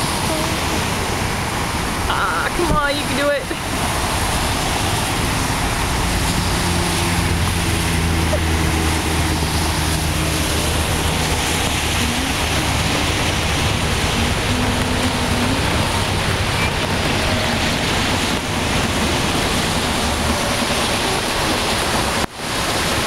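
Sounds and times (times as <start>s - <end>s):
car engine hum: 0.0s - 23.0s
water rushing from tyres: 0.0s - 23.0s.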